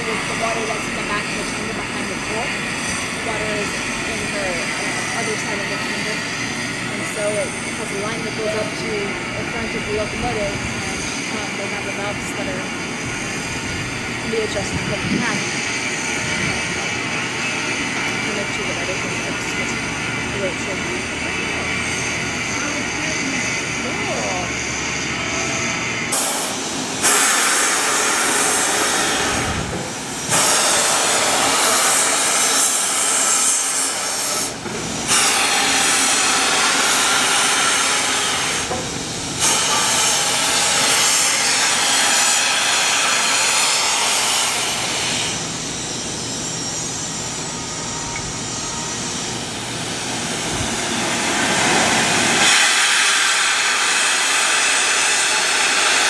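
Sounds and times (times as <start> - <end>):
steam locomotive venting steam: 0.0 - 56.0.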